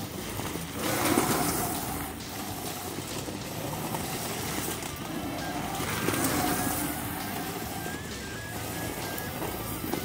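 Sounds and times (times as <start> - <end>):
electric motor whine: 0.0 - 10.0
tyres crunching on gravel: 0.0 - 10.0.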